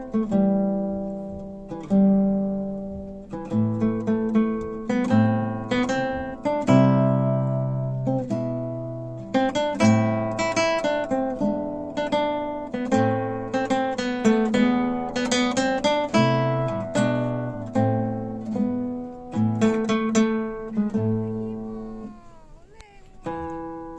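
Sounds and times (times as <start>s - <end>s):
acoustic guitar music: 0.0s - 23.9s.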